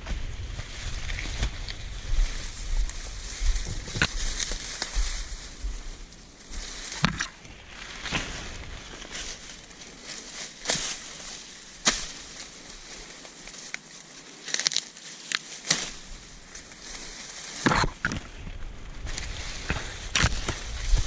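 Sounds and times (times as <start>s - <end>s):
brittle leaves crackling: 0.0s - 21.0s
dry corn plants rustling: 0.0s - 21.0s.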